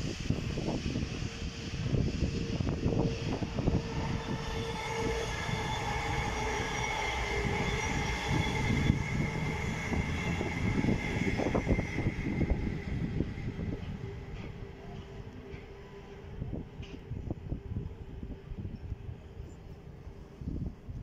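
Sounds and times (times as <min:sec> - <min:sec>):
train wheels rumbling on rails: 0:00.0 - 0:21.0
high whining tones: 0:00.2 - 0:18.4.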